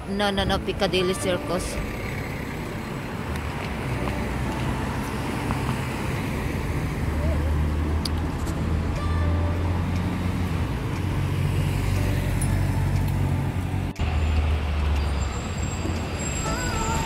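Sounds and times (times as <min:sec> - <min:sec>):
bus engine hum: 0:00.0 - 0:17.0
cars and buses passing: 0:00.0 - 0:17.0.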